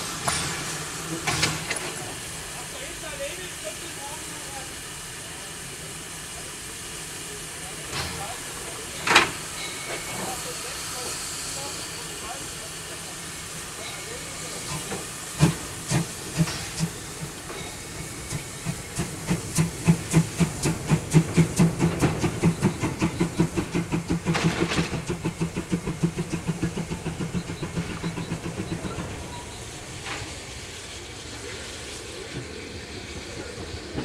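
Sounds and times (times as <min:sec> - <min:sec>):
steam hissing: 0:00.0 - 0:34.0
steam locomotive exhaust beats: 0:00.0 - 0:34.0.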